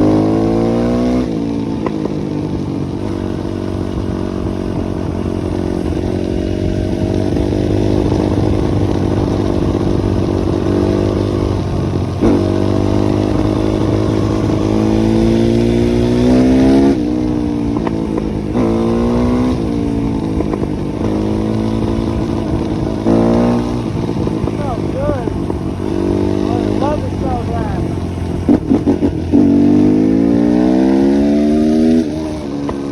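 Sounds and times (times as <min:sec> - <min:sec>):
dirt bike engine accelerating: 0:00.0 - 0:32.9.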